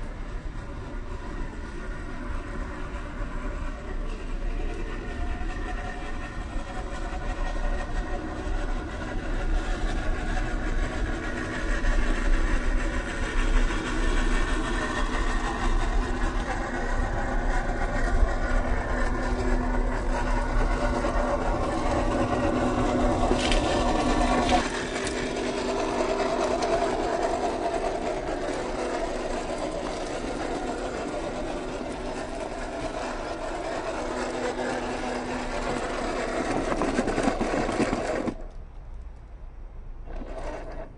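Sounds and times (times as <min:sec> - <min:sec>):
small electric motor whining: 0:00.0 - 0:38.6, 0:40.0 - 0:40.9.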